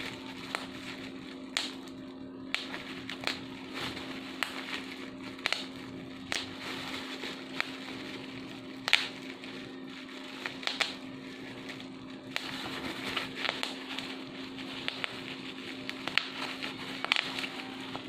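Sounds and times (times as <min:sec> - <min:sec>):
bubble wrap popping: 0:00.0 - 0:18.0
plastic crinkling: 0:00.0 - 0:18.0
steady low hum: 0:00.0 - 0:18.0.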